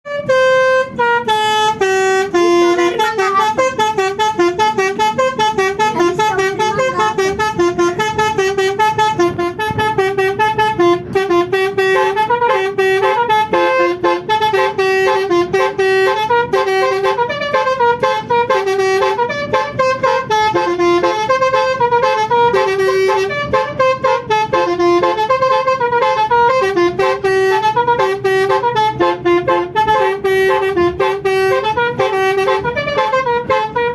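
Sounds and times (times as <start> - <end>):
multi-tone bus horn melody: 0.1 - 33.9.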